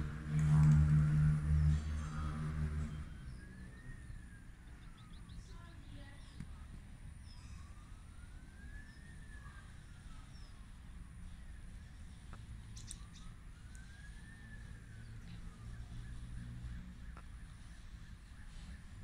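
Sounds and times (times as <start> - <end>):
emergency siren wailing faintly: 0.0 - 19.0.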